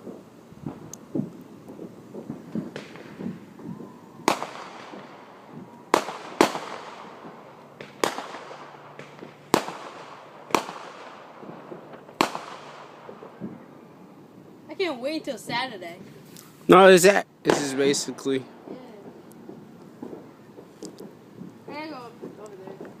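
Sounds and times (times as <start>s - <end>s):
distant fireworks bangs: 0.0s - 23.0s.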